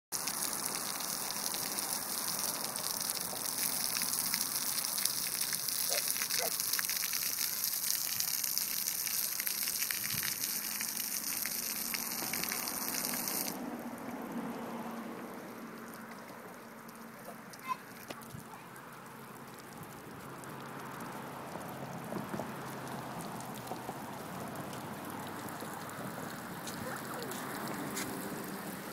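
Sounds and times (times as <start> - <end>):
fountain jet spraying water: 0.1 - 14.5, 15.4 - 28.9.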